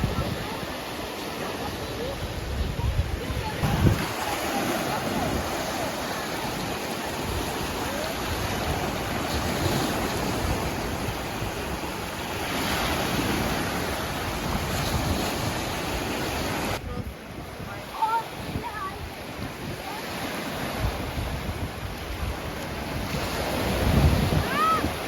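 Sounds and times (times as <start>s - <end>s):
sea waves washing ashore: 0.0s - 25.0s
wind on microphone: 0.0s - 25.0s.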